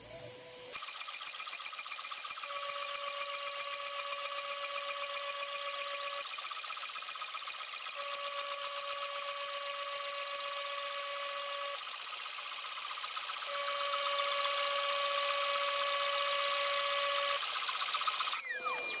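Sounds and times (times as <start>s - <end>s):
milling spindle whine: 0.6s - 19.0s.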